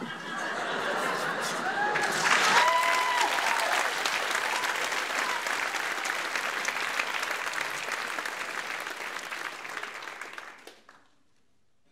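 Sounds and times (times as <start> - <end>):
audience applauding: 0.4 - 11.1.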